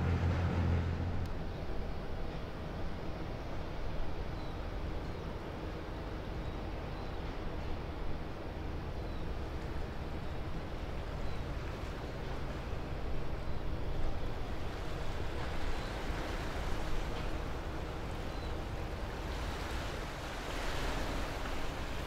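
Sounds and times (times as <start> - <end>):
harbour water washing: 0.0 - 22.0
ship engine drone: 0.0 - 22.0.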